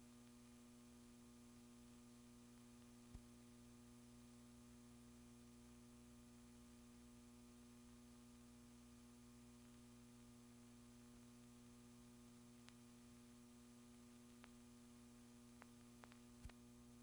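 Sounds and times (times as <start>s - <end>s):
low electrical hum with hiss: 0.0s - 17.0s.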